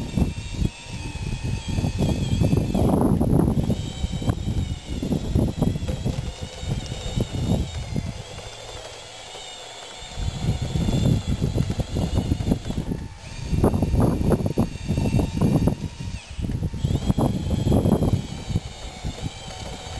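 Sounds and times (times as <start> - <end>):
electric drive and gears whining: 0.0 - 19.9
wind buffeting microphone: 0.0 - 19.9.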